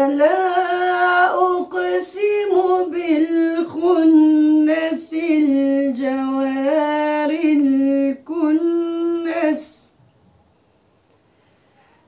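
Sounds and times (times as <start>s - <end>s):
woman chanting melodic recitation: 0.0s - 9.9s.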